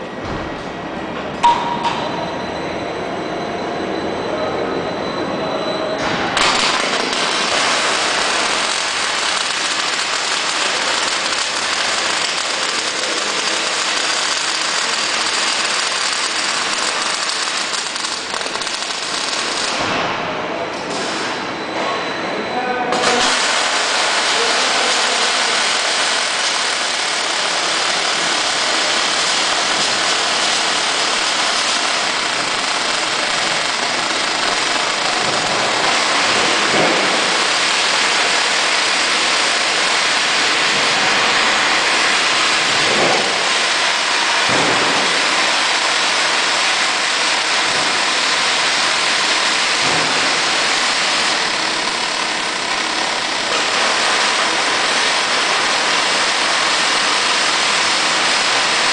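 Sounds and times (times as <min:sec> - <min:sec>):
plasma cutter arc hissing: 0:06.4 - 0:19.9, 0:22.9 - 0:58.9.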